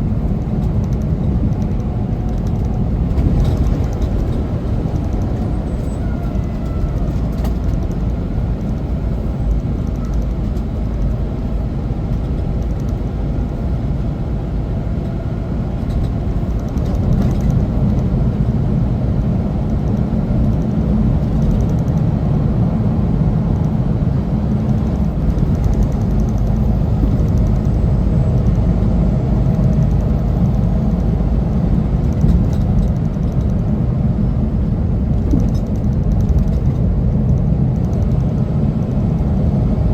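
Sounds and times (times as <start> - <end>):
road noise: 0.0 - 39.9
truck engine rumble: 0.0 - 39.9.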